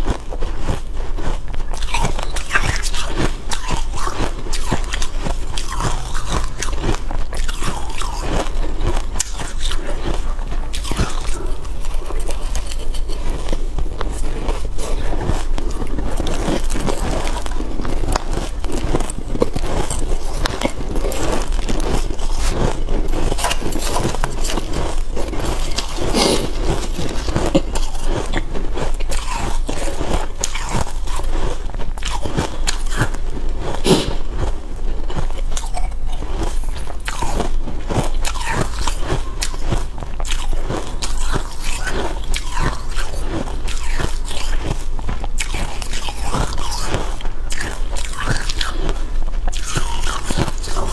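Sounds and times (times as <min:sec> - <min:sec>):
chewing ice crunching: 0:00.0 - 0:50.9.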